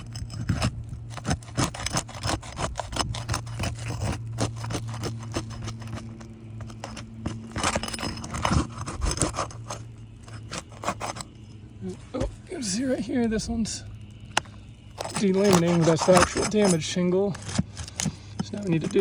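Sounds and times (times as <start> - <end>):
roof snake scraping on shingles: 0.0 - 19.0
steady low hum: 0.0 - 19.0.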